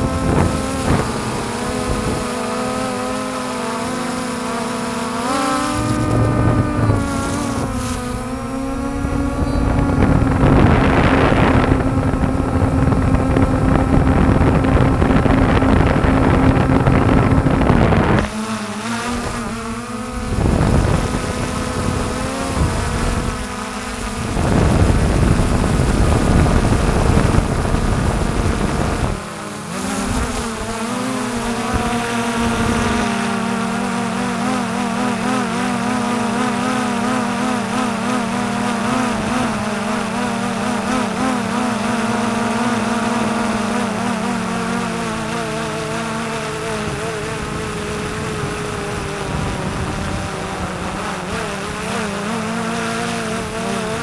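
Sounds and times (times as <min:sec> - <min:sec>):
drone propellers buzzing: 0:00.0 - 0:54.0
wind on microphone: 0:00.0 - 0:54.0.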